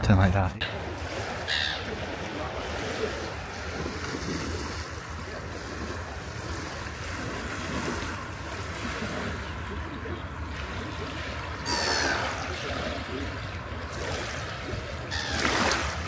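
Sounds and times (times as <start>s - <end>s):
water noise: 0.0s - 16.0s
wind: 0.0s - 16.0s.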